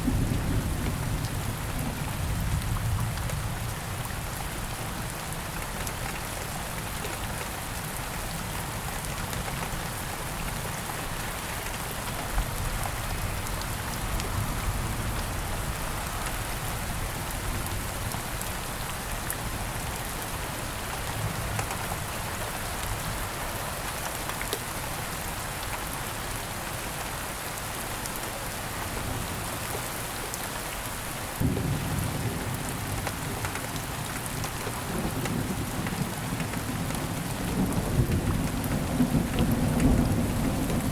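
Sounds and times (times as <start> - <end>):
raindrops striking close by: 0.0 - 40.9
steady rain falling: 0.0 - 40.9.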